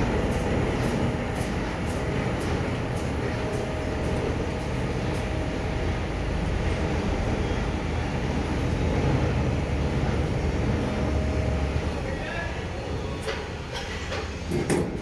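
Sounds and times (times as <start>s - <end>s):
machinery low rumble: 0.0s - 14.3s.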